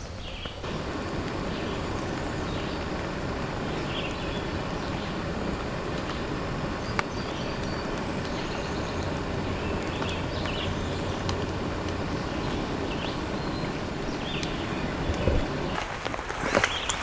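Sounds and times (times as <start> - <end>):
steady rain: 0.5 - 17.0.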